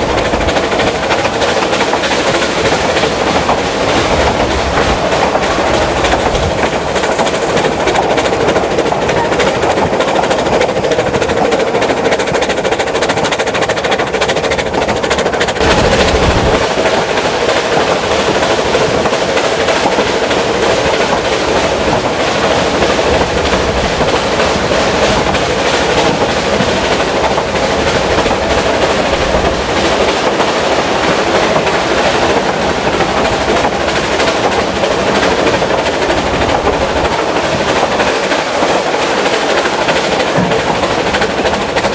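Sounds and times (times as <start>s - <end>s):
steam train clattering: 0.0s - 41.9s.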